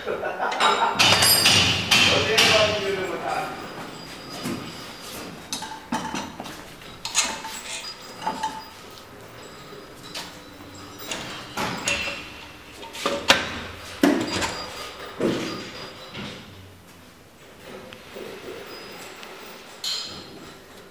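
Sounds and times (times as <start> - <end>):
metal clanks and knocks: 0.5 - 16.8, 17.4 - 20.9.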